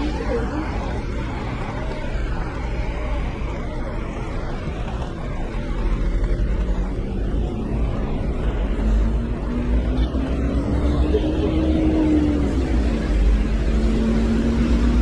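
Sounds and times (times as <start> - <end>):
rain on a wet street: 0.0 - 15.0
traffic rumble: 0.0 - 15.0.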